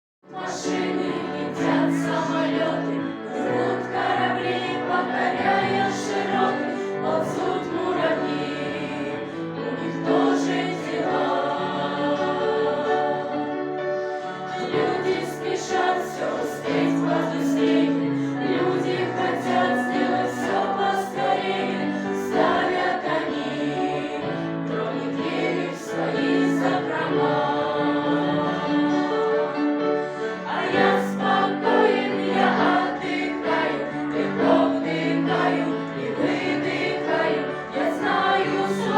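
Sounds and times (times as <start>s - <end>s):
teenagers singing as a choir: 0.2s - 38.9s.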